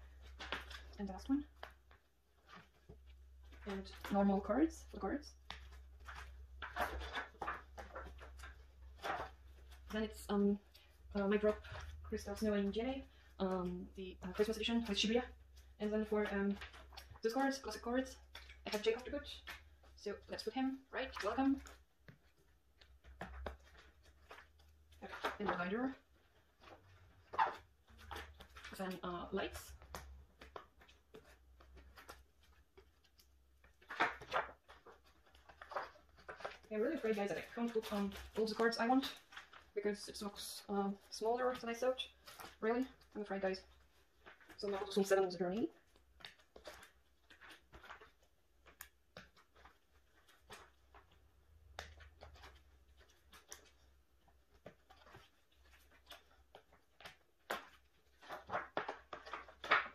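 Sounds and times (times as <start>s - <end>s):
page flipping: 0.0s - 13.6s, 14.3s - 40.4s, 41.0s - 59.9s
plastic sleeves rustling: 0.0s - 59.9s.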